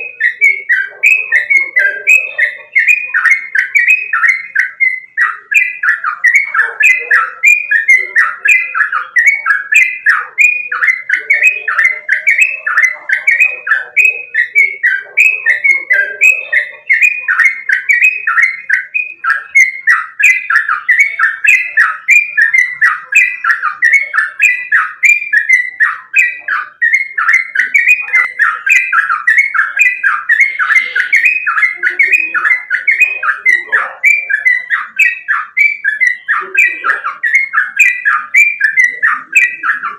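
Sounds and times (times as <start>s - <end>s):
bird singing bubbly notes: 0.0s - 39.9s.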